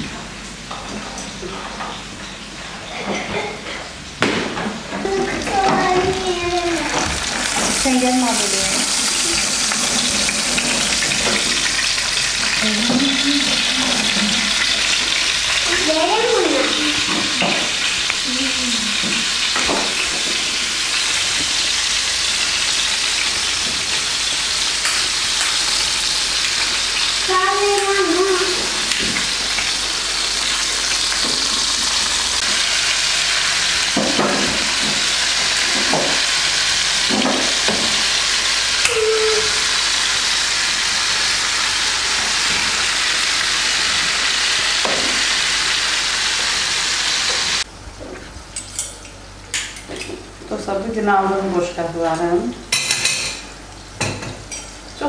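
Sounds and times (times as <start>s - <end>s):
food sizzling in frying pan: 1.8s - 47.7s.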